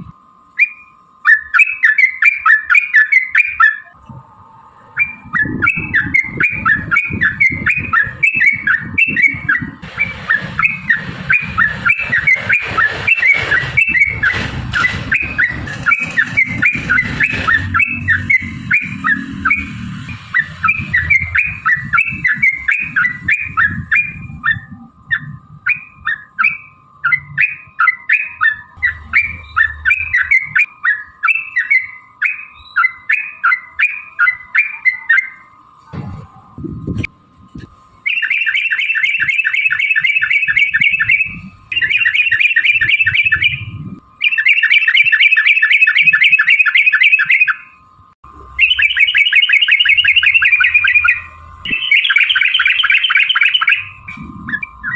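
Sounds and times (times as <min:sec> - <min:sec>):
bird chattering song: 0:00.5 - 0:04.0, 0:04.9 - 0:35.6, 0:38.0 - 0:47.8, 0:48.4 - 0:54.9
low rumbling noise: 0:03.8 - 0:32.7, 0:35.4 - 0:38.1, 0:39.2 - 0:44.5, 0:47.7 - 0:54.9.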